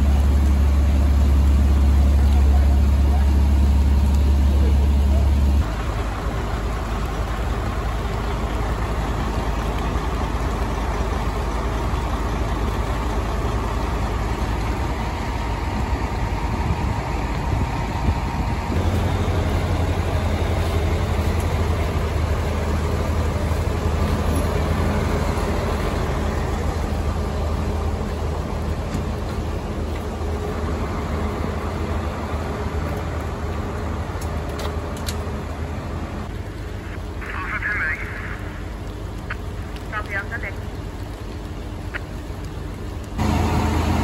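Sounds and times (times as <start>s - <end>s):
diesel fire trucks idling: 0.0s - 44.0s.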